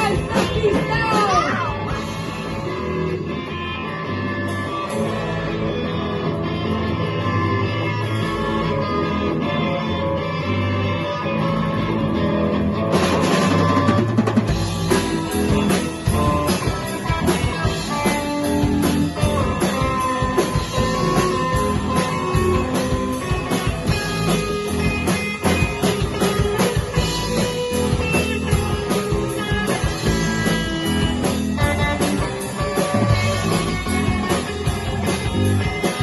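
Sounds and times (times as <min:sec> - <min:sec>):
drum kit beat: 0:00.0 - 0:08.6, 0:12.9 - 0:36.0
held guitar notes: 0:00.0 - 0:36.0.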